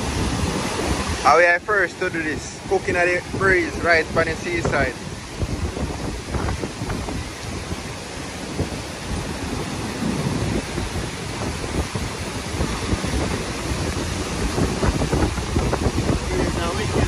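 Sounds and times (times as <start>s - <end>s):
storm surf breaking: 0.0s - 17.0s
wind buffeting microphone: 0.0s - 17.0s.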